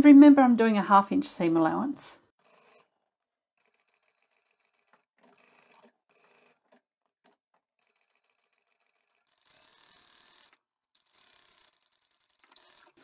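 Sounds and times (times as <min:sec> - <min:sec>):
faint sewing machine stitching: 0:02.4 - 0:13.0.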